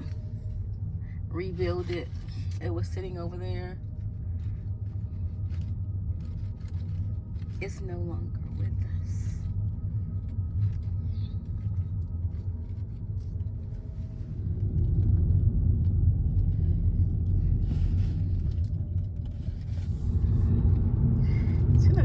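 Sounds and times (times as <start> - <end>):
car cabin road noise: 0.0 - 22.0.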